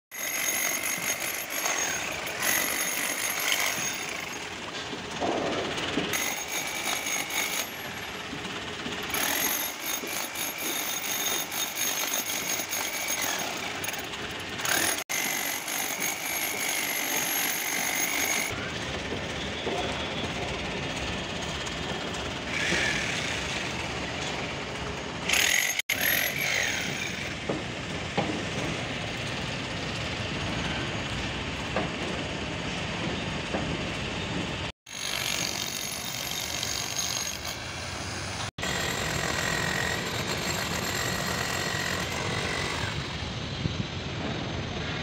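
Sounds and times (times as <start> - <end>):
construction machinery running: 0.2 - 45.0.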